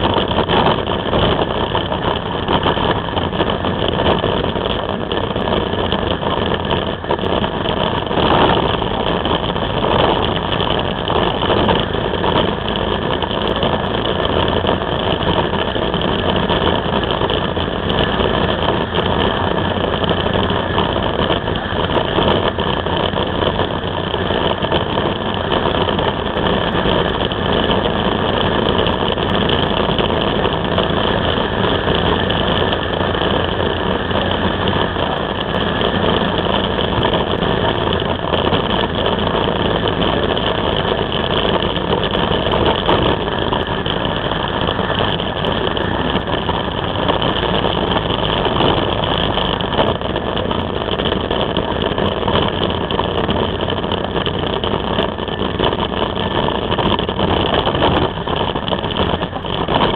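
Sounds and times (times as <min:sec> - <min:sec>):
motorcycle engine cruising: 0:00.0 - 0:59.9
rush of riding wind: 0:00.0 - 0:59.9.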